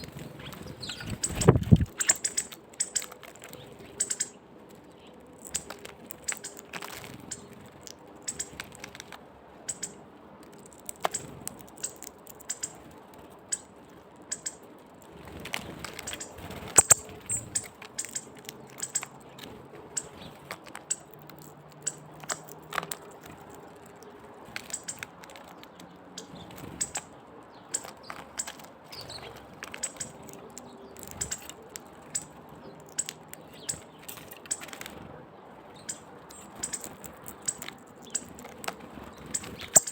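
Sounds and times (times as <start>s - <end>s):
small birds ticking and clicking: 0.0s - 39.9s.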